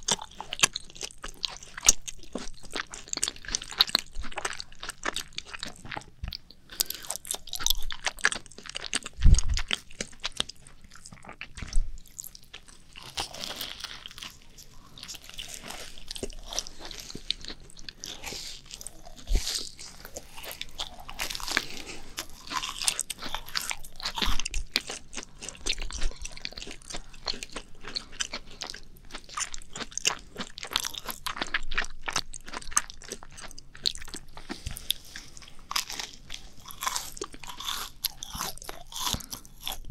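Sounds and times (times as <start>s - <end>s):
people chewing crunchy food: 0.0s - 39.9s.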